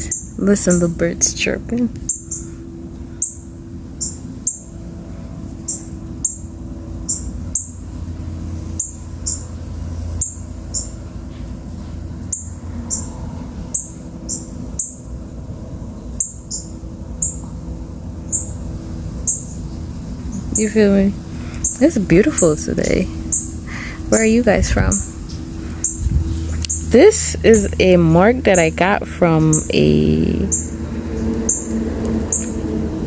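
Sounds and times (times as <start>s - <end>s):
birds chirping: 0.0s - 33.0s
steady low hum: 0.0s - 33.0s.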